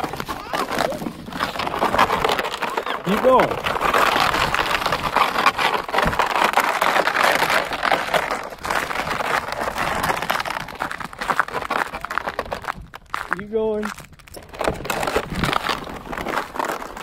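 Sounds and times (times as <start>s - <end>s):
sled sliding over snow: 0.0s - 17.0s.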